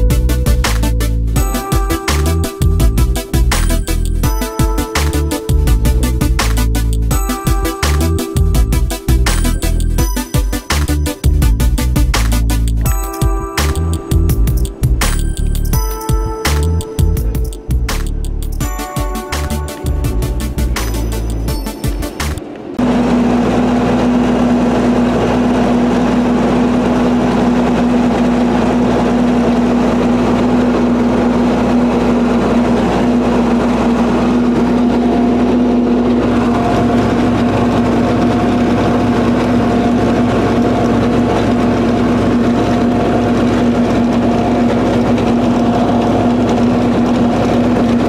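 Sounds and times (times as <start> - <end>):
higher steady tone: 0.0 - 47.3
tractor diesel engine running: 0.0 - 48.0.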